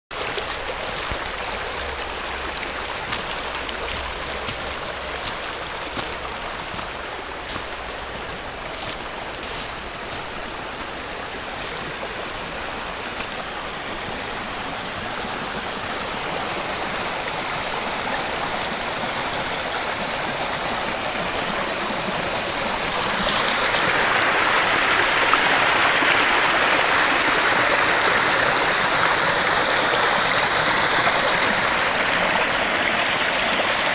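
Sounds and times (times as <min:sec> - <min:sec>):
brook splashing over stones: 0:00.1 - 0:33.9
cascade pouring between rocks: 0:00.1 - 0:33.9.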